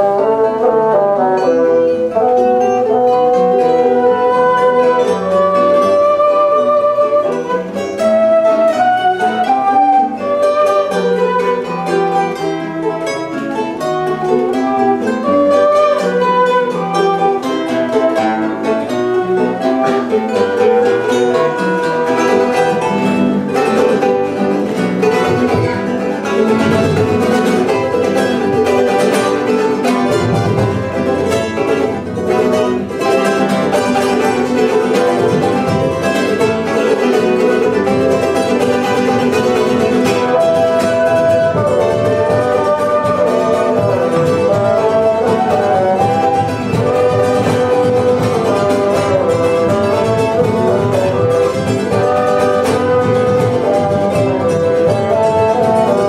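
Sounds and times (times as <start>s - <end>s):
bassoon: 0.0s - 56.0s
cane flute: 0.0s - 56.0s
strummed guitars: 0.0s - 56.0s.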